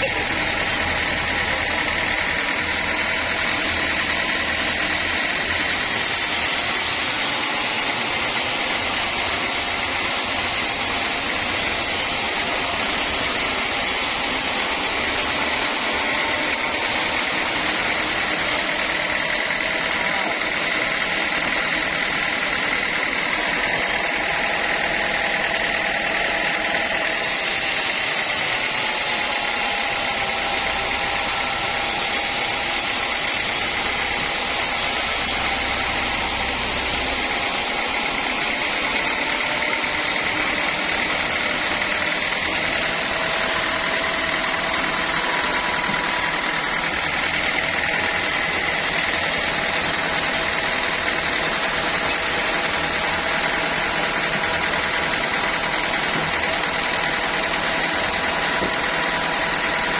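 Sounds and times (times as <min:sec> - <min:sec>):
sawmill saw droning with high whine: 0:00.0 - 0:59.9.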